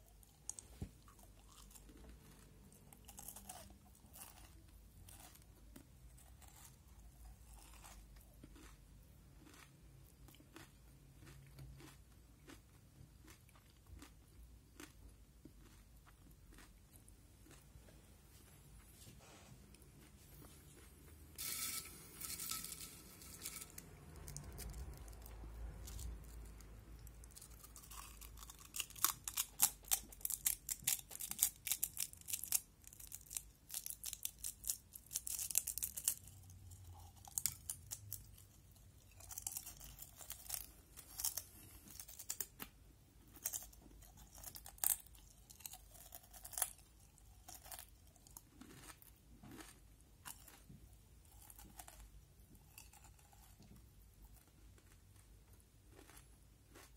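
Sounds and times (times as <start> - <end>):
chips crunching while chewed: 0.0 - 17.7, 20.4 - 56.9.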